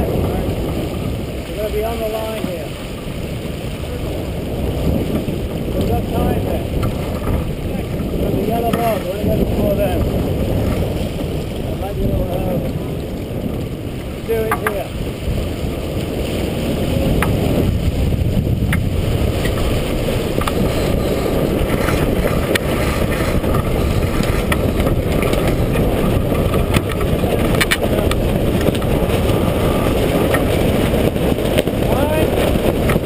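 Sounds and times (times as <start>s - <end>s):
water streaming past hull: 0.0s - 33.0s
wind buffeting microphone: 0.0s - 33.0s.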